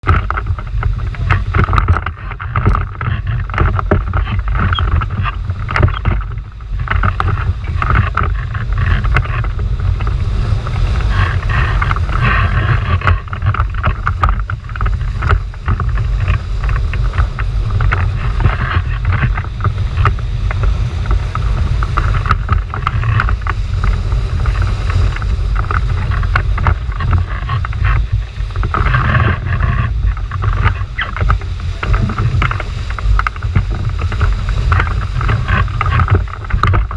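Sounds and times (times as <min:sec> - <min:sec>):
heavy low water rumble: 0:00.0 - 0:36.9
whitewater churning and splashing: 0:00.0 - 0:36.9.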